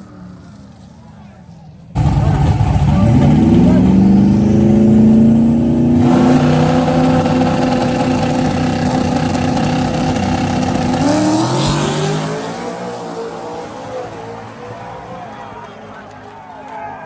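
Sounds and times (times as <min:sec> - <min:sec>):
truck engine accelerating: 0:00.0 - 0:16.3.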